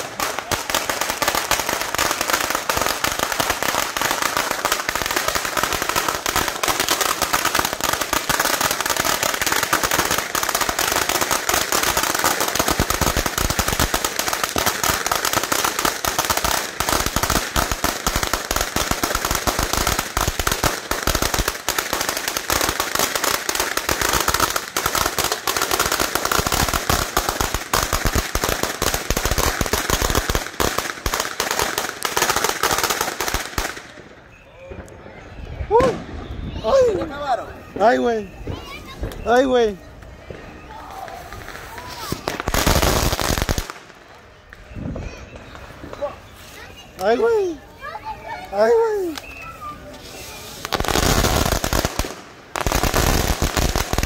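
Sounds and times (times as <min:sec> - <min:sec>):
firecrackers popping: 0:00.0 - 0:54.0.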